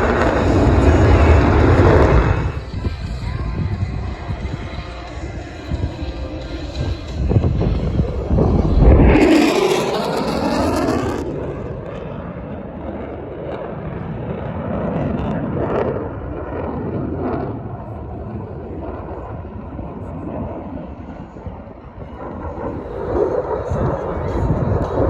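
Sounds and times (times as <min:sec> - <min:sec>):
jet engine flying past: 0:00.0 - 0:25.0.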